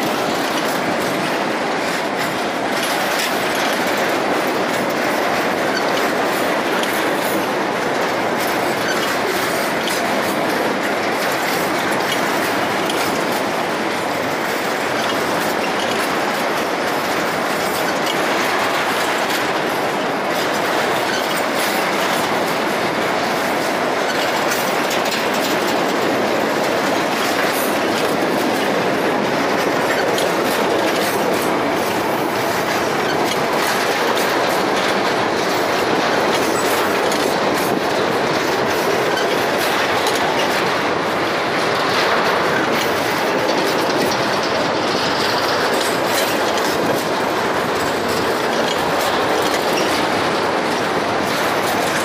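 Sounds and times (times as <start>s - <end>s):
steel wheels rumbling on rail: 0.0s - 52.0s
wheels clacking over rail joints: 0.0s - 52.0s.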